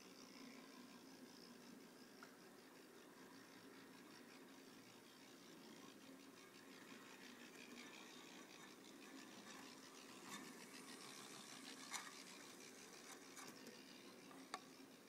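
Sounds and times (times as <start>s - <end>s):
small electric motor whirring: 0.0s - 15.0s.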